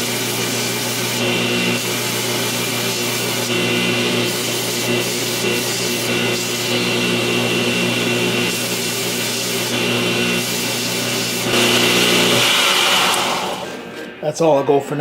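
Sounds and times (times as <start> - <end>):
power tool motor hum: 0.0 - 14.1.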